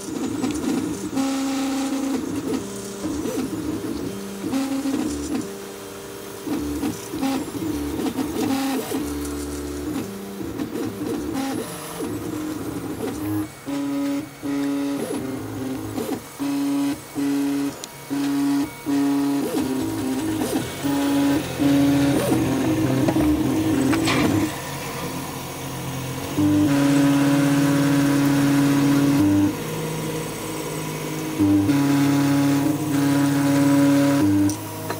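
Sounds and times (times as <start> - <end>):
stepper motors whining: 0.0 - 34.9.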